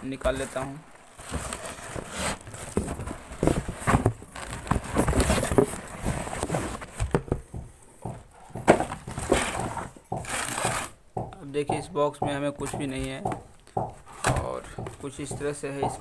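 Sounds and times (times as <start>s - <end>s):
cardboard scraping and knocking: 0.1s - 16.0s.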